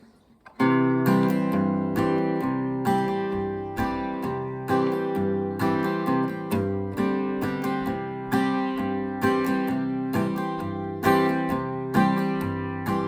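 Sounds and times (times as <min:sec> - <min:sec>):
acoustic guitar strumming chords: 0:00.4 - 0:13.0.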